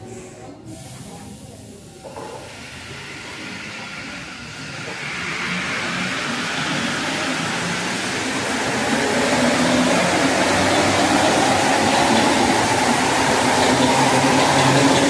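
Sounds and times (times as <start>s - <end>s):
metro train pulling out: 0.0s - 15.0s.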